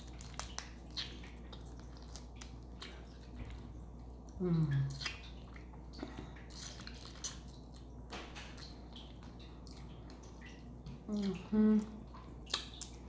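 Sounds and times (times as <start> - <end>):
wet chewing and mouth clicks: 0.0 - 13.0.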